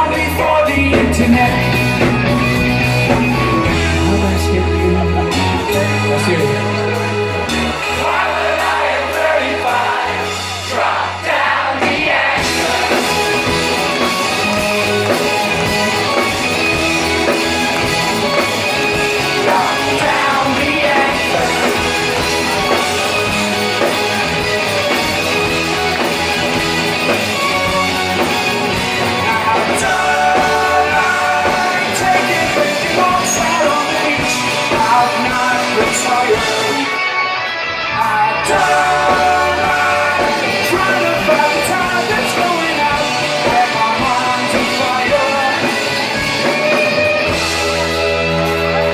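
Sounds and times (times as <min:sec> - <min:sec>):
lead vocal singing: 0:00.0 - 0:47.6
rock band playing live: 0:00.0 - 0:48.9.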